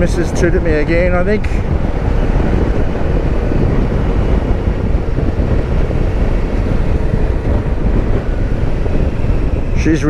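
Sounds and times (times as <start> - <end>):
motorcycle engine running: 0.0 - 10.0
wind and road rush: 0.0 - 10.0.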